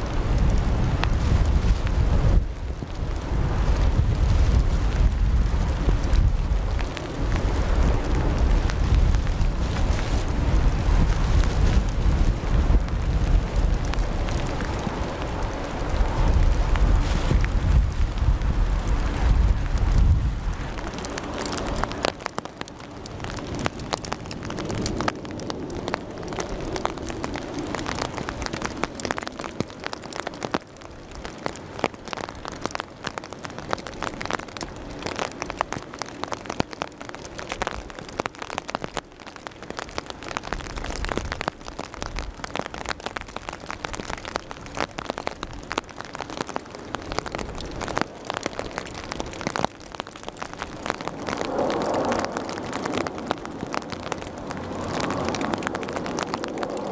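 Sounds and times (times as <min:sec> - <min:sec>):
raindrops pattering: 0:00.0 - 0:56.9
steady hiss of rain: 0:00.0 - 0:56.9.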